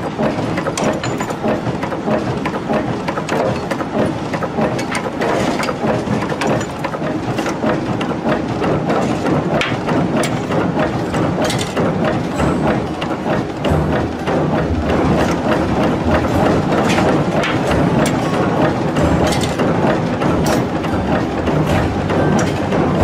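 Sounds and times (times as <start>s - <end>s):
metallic clatter of machinery: 0.0s - 23.0s.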